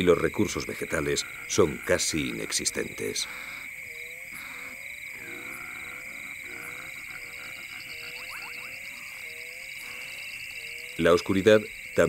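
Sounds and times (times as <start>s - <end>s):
frog croaking: 0.0s - 12.0s
high insect trill: 0.0s - 12.0s.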